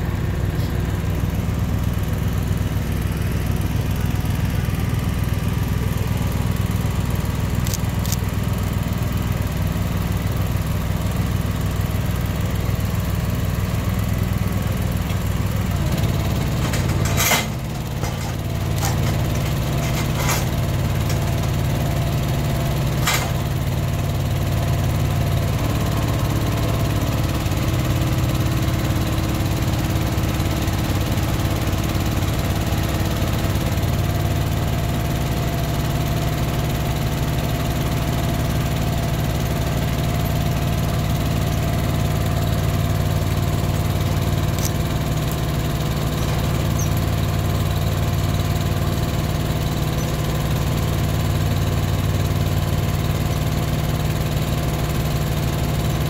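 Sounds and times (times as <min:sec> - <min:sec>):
engine droning: 0:00.0 - 0:56.0.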